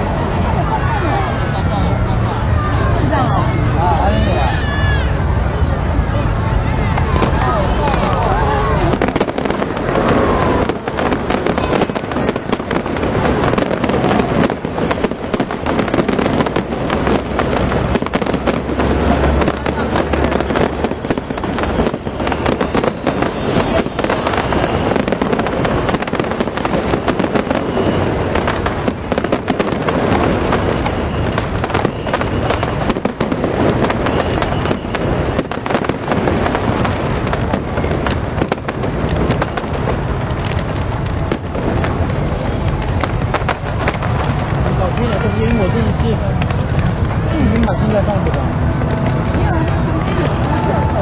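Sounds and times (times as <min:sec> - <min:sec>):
fireworks crackling and popping: 0:00.0 - 0:51.0.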